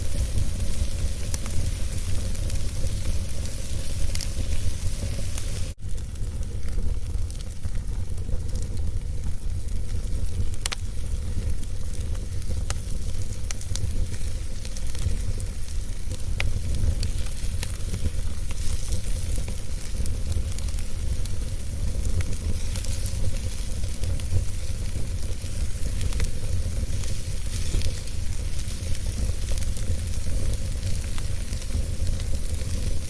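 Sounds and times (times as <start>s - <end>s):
fire crackling and popping: 0.0s - 33.0s
fire rumbling and hissing: 0.0s - 33.0s.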